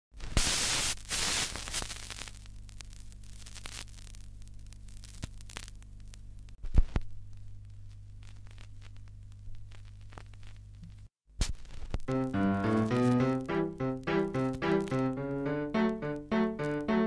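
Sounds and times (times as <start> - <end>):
static hiss: 0.2 - 17.0.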